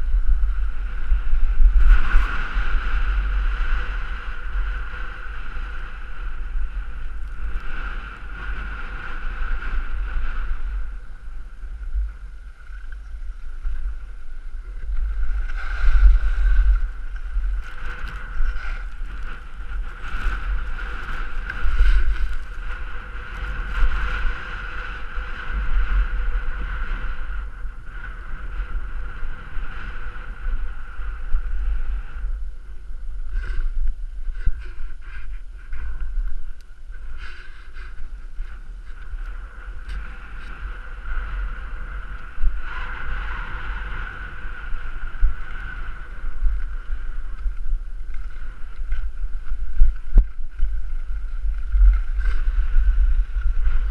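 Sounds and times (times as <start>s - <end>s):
skis scraping over packed snow: 0.0s - 53.9s
wind rumbling on microphone: 0.0s - 53.9s.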